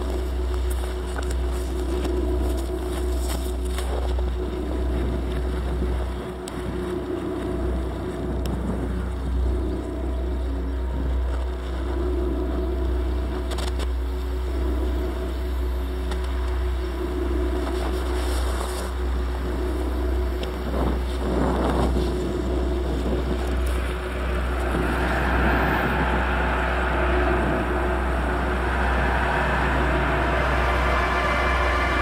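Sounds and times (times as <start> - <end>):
dark ambient drone: 0.0 - 32.0.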